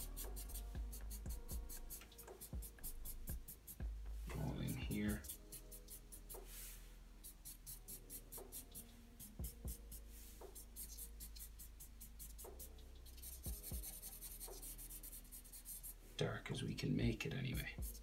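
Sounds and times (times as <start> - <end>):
marker scratching on paper: 0.0 - 3.9, 4.7 - 16.0, 17.6 - 18.0.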